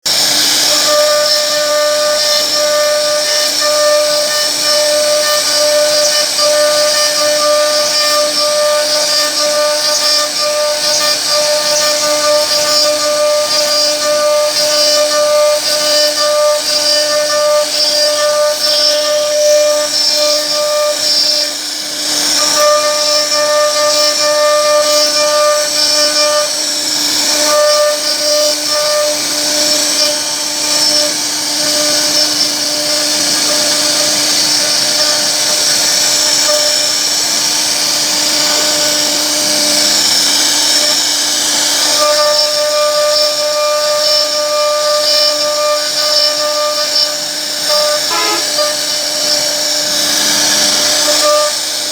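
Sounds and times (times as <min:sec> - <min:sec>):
bit cutting wood hiss: 0:00.0 - 0:51.9
router spindle whine: 0:00.0 - 0:51.9.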